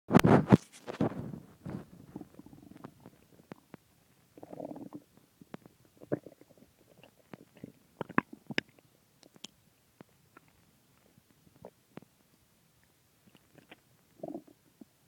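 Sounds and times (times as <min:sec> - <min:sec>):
stomach gurgling: 0:00.4 - 0:12.2, 0:13.2 - 0:15.0.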